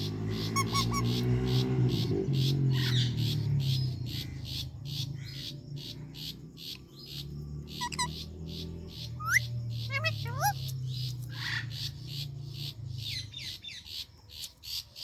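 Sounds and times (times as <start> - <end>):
parakeets chirping: 0.0 - 14.5.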